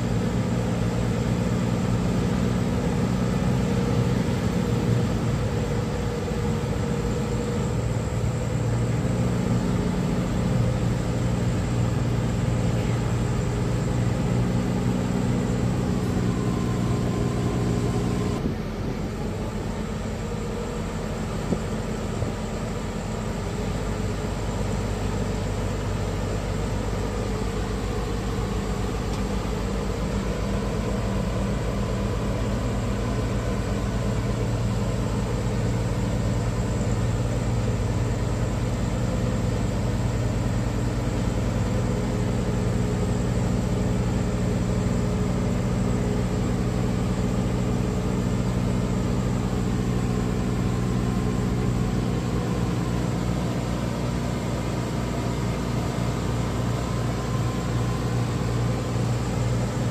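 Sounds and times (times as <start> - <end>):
ship engine low hum: 0.0 - 59.9.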